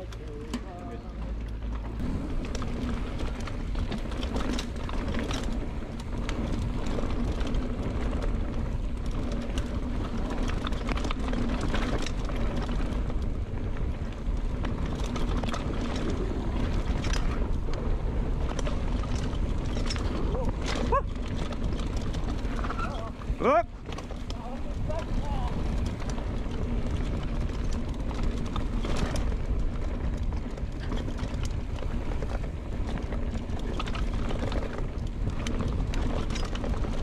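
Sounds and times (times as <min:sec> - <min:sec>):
bike clicks and rattles: 0:00.0 - 0:37.0
tyres rolling over dirt: 0:00.0 - 0:37.0
wind rush on microphone: 0:02.0 - 0:37.0.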